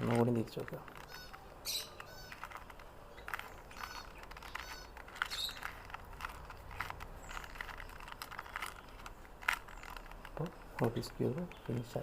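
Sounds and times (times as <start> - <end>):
puzzle cube clicking as twisted: 0.0 - 12.0.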